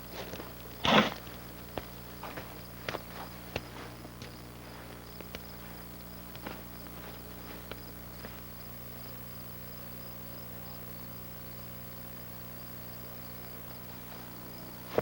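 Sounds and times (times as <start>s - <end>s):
constant low hum: 0.0s - 15.0s.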